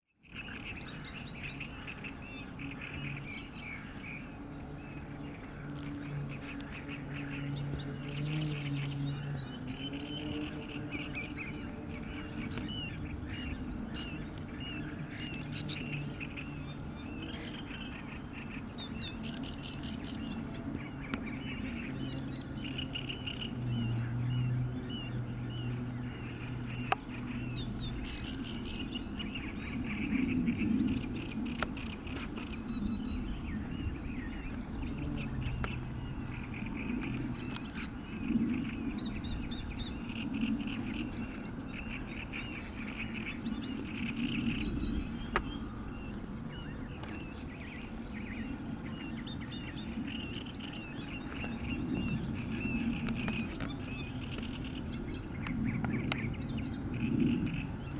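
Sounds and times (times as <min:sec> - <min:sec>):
birds calling: 0:00.3 - 0:57.9.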